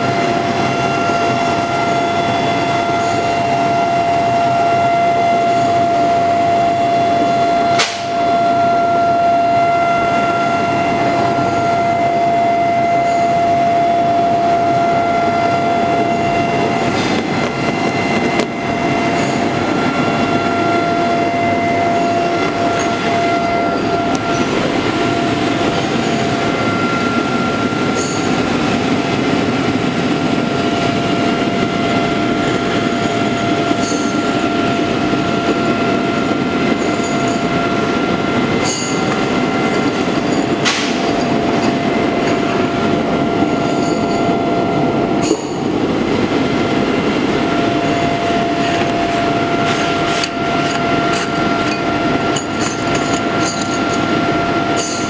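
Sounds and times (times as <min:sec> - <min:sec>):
factory machinery din: 0:00.0 - 0:55.0
machinery whine: 0:00.0 - 0:55.0.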